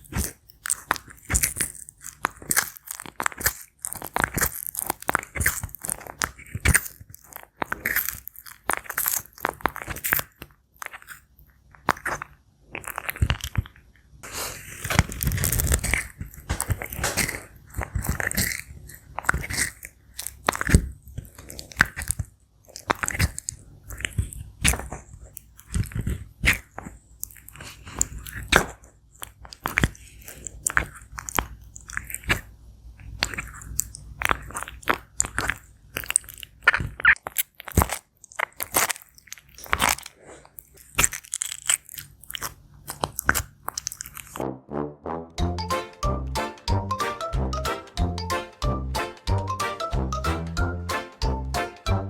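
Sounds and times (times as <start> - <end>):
tortoise crunching fruit: 0.0 - 44.4.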